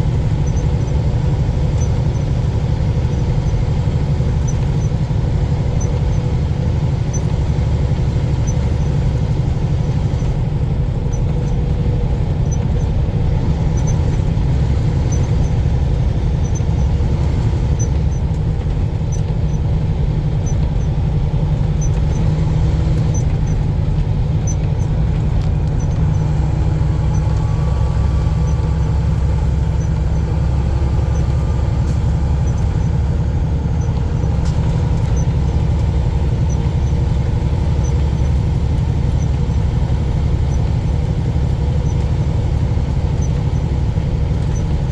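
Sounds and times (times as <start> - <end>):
road noise: 0.0 - 44.9
truck engine rumble: 0.0 - 44.9.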